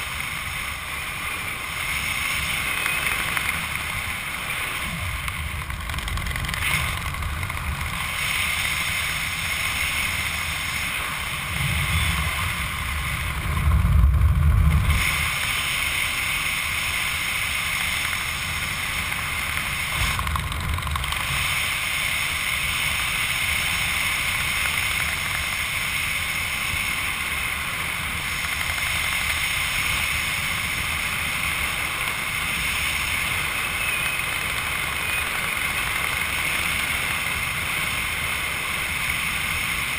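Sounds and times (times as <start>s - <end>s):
wind rushing over microphone: 0.0s - 33.8s.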